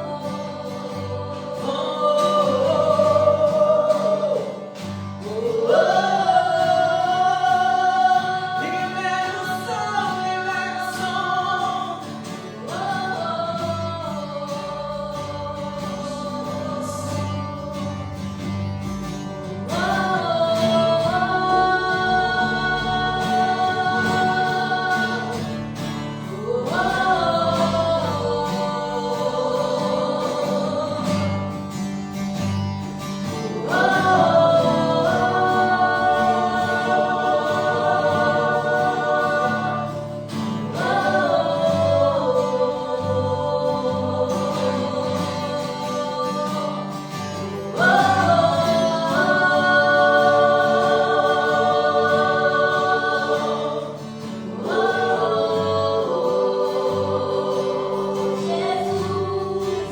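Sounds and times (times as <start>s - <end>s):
singing in long held notes: 0.0s - 18.3s, 19.5s - 31.8s, 33.3s - 59.9s.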